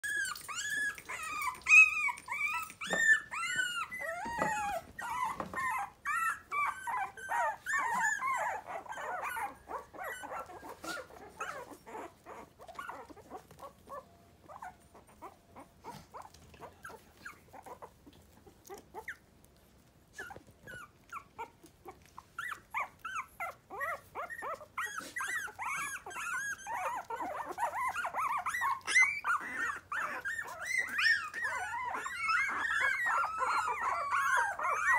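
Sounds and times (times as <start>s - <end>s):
puppies whining and squeaking: 0.0s - 34.9s.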